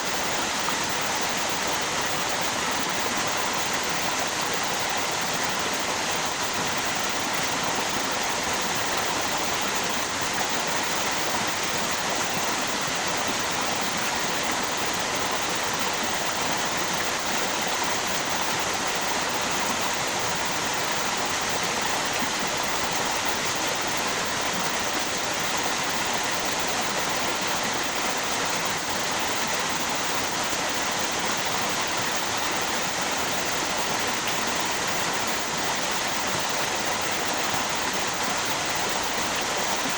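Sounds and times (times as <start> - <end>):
rushing river and waterfall: 0.0 - 39.9.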